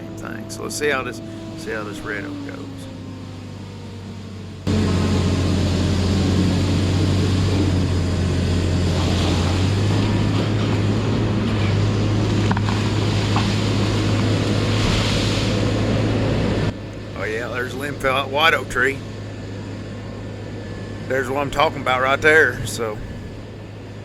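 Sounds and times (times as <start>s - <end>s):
disc saw machine droning: 0.0s - 14.8s, 15.4s - 24.0s.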